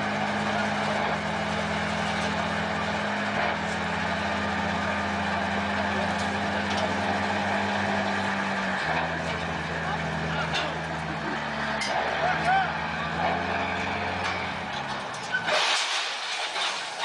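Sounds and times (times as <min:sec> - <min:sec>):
vehicle engine running: 0:00.0 - 0:15.5.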